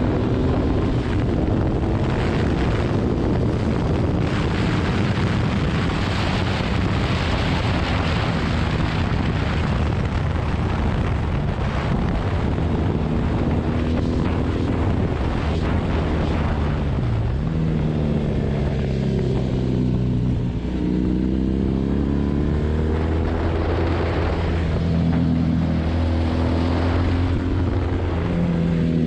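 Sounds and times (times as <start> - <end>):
motorcycle engine: 0.0 - 29.0
wind rush over microphone: 0.0 - 29.0.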